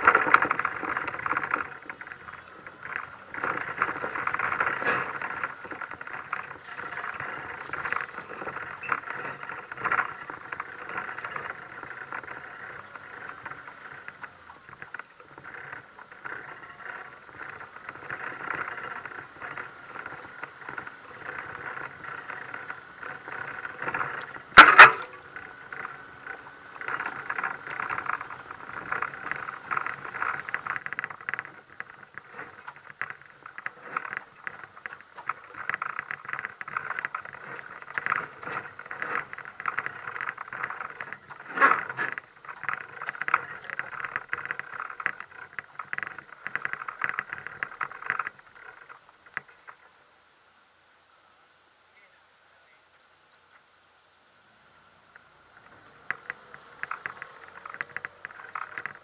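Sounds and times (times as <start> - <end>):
off-road vehicle rattling: 0.0 - 50.0, 54.6 - 59.0.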